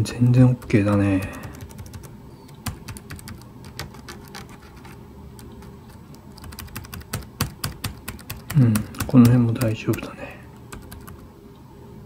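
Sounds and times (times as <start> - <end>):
laptop keys clicking: 0.1 - 11.2.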